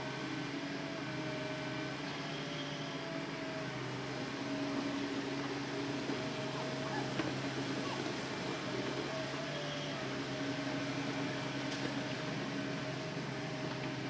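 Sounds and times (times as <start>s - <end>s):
excavator diesel engine running: 0.1s - 14.0s.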